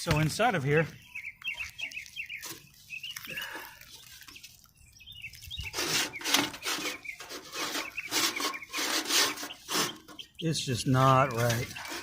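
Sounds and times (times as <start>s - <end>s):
bird chirps: 0.0s - 12.0s
scraping rubbing strokes: 1.6s - 4.7s, 5.3s - 12.0s.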